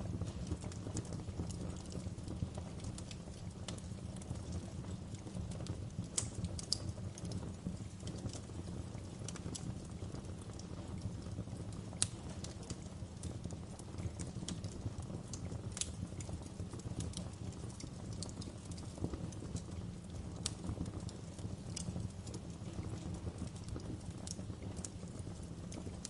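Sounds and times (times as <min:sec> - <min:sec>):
fire crackling: 0:00.0 - 0:26.0
low rumble of flames: 0:00.0 - 0:26.0.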